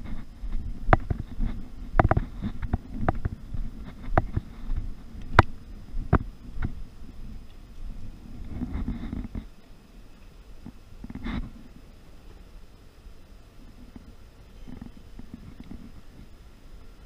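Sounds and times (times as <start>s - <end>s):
wind rumble: 0.0s - 17.0s.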